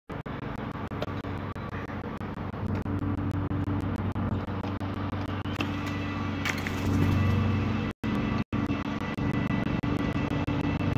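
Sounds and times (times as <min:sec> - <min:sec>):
road traffic drone: 0:00.1 - 0:10.9.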